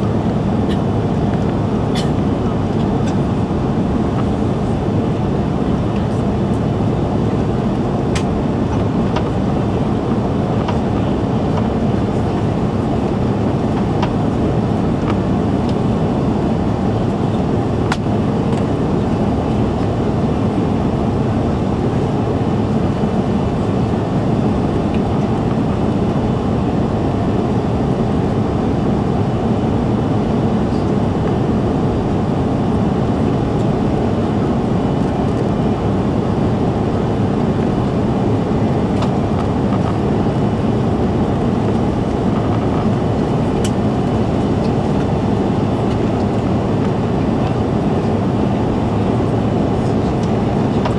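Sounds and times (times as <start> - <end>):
jet engines: 0.0 - 50.9.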